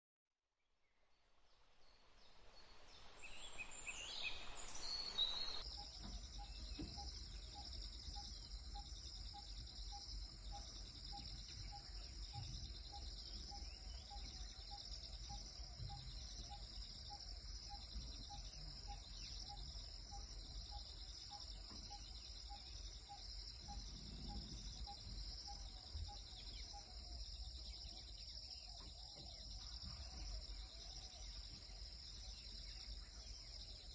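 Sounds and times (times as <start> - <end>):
forest insects droning: 3.2 - 33.9.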